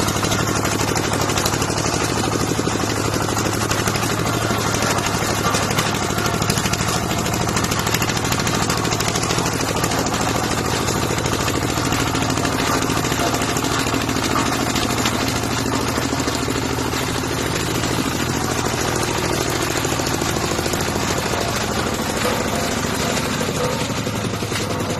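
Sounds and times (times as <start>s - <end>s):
tractor engine chugging: 0.0s - 24.9s.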